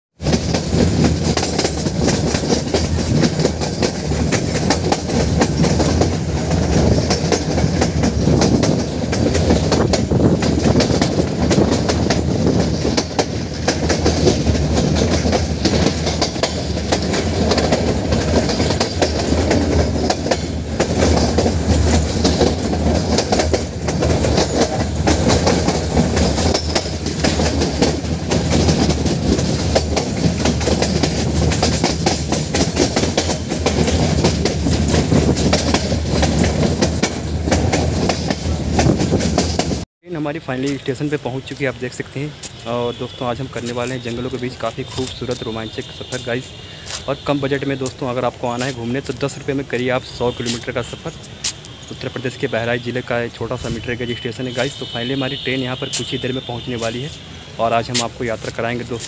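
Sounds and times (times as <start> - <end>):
train wheels clattering over rail joints: 0.2 - 59.0.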